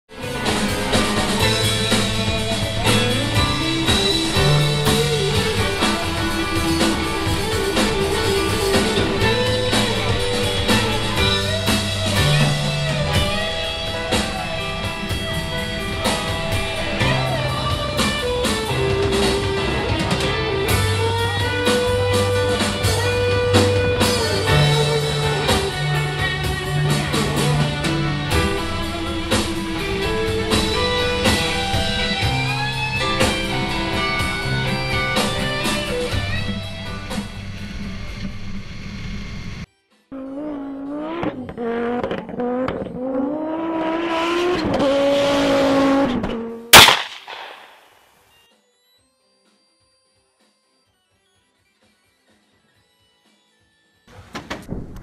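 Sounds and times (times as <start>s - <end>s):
instrumental rock music: 0.1s - 47.7s.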